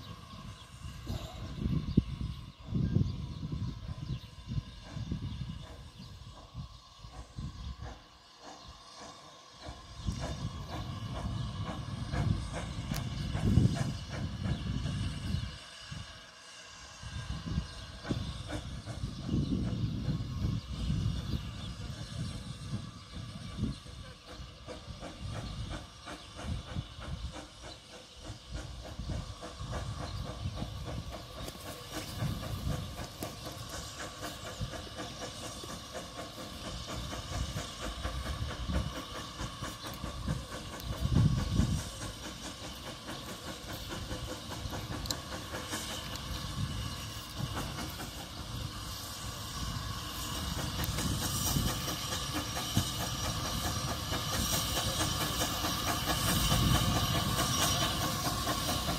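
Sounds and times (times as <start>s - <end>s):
steam hiss: 0.0s - 58.9s
steam tram running noise: 0.0s - 58.9s.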